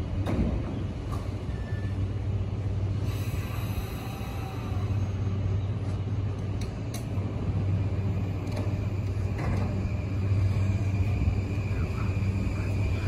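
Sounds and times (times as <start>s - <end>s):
electric train humming: 0.0s - 13.0s
train pulling away: 0.0s - 13.0s.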